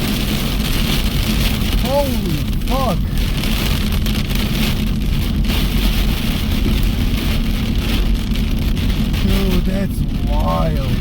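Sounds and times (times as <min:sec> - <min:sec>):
car engine humming: 0:00.0 - 0:11.0
hail and rain on a car: 0:00.0 - 0:11.0.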